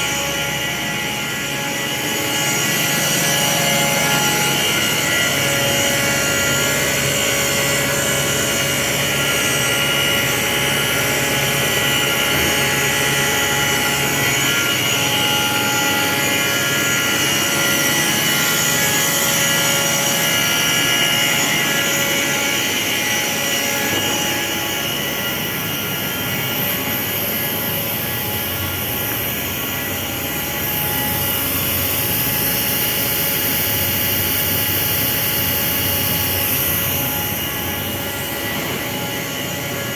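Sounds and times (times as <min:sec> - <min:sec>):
industrial machinery hum and whir: 0:00.0 - 0:39.9.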